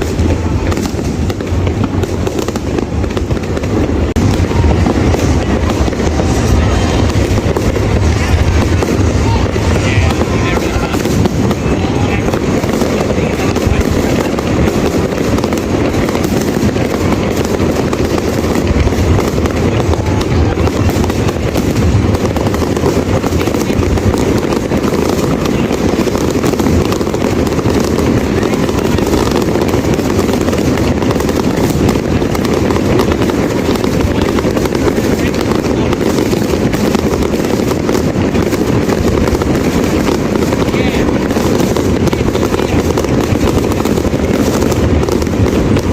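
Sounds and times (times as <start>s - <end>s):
fireworks booming and crackling: 0.0s - 45.9s.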